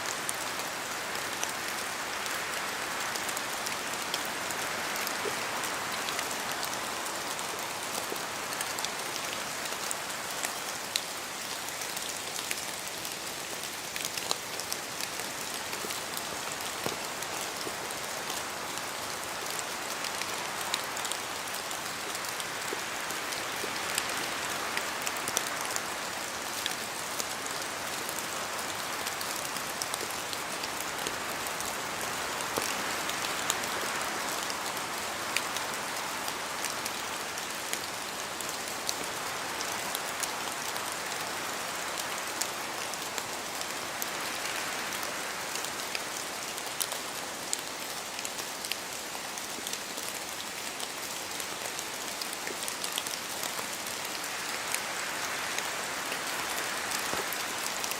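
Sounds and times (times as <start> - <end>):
rain in a forest: 0.0 - 57.9.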